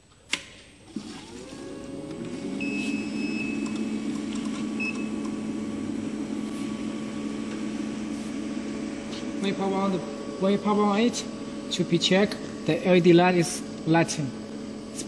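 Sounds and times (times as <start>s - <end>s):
cooling unit hum: 0.0s - 15.0s.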